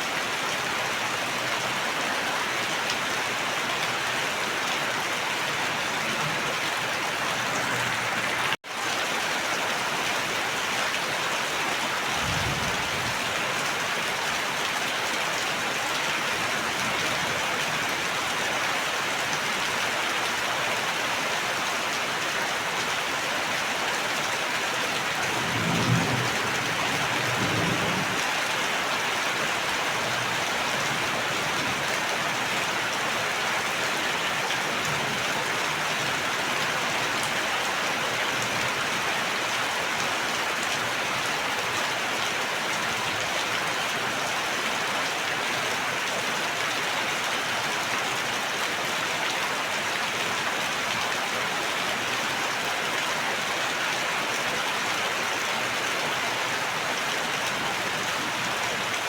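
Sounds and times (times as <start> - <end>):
rain pattering: 0.1 - 59.0.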